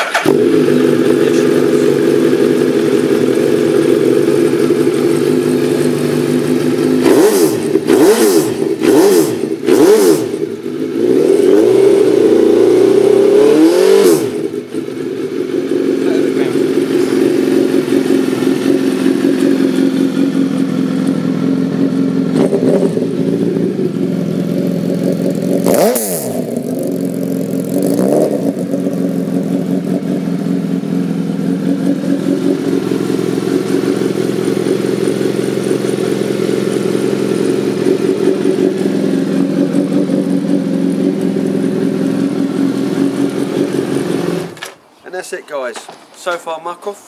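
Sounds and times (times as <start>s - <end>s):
motorcycle engine idling and revving: 0.0s - 44.8s.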